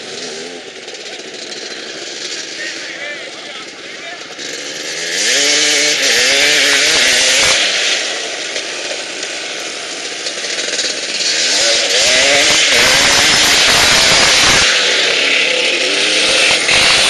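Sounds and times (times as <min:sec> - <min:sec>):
quad engine revving: 0:00.0 - 0:17.0.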